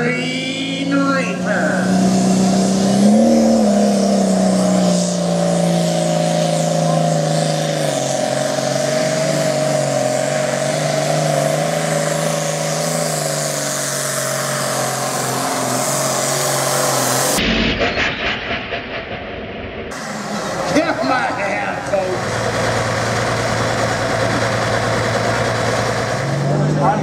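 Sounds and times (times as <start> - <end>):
tractor diesel engine under load: 0.0 - 17.4, 19.9 - 27.0.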